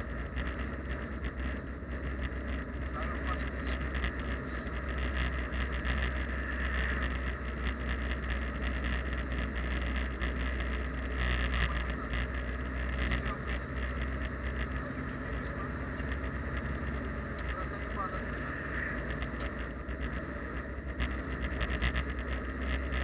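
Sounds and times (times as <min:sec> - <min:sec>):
engine and road rumble: 0:00.0 - 0:23.0.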